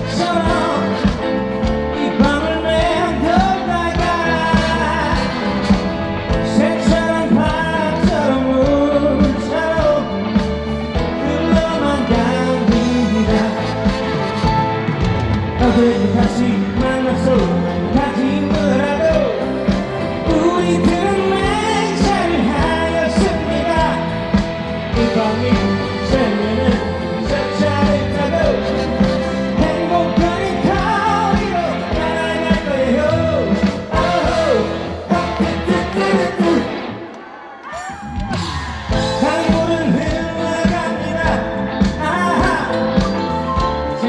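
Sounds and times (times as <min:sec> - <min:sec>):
man singing with vibrato: 0:00.0 - 0:15.0, 0:15.6 - 0:44.0
amplified backing music: 0:00.0 - 0:37.3, 0:38.0 - 0:44.0.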